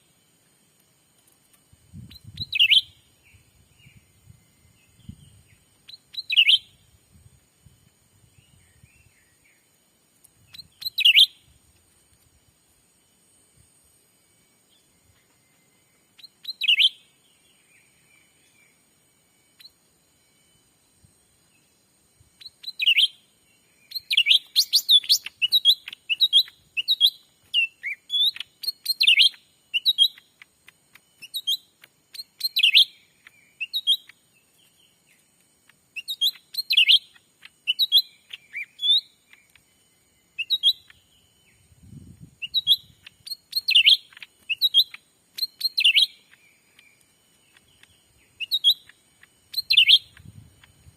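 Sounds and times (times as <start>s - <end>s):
bird chirping: 1.1s - 7.0s, 8.2s - 11.9s, 14.3s - 50.9s.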